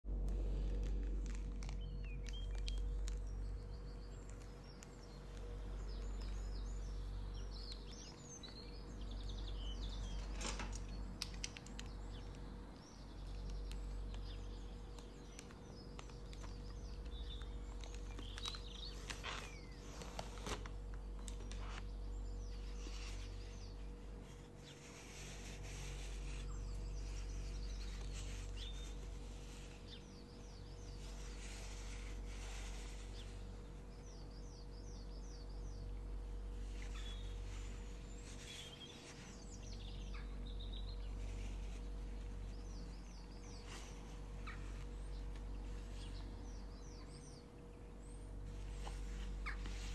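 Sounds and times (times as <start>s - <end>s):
low background hum: 0.0s - 49.9s
birds chirping: 0.1s - 49.9s.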